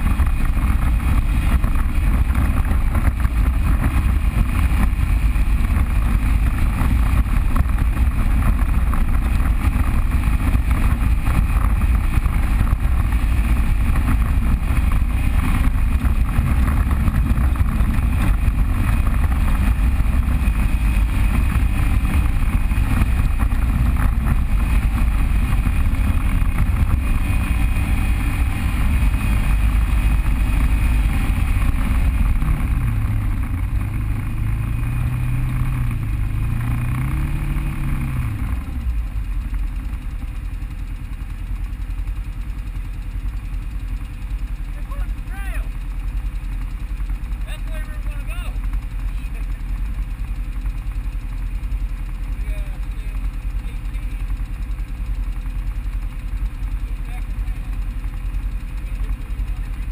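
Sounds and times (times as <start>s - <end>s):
off-road vehicle engine rumbling: 0.0s - 59.9s.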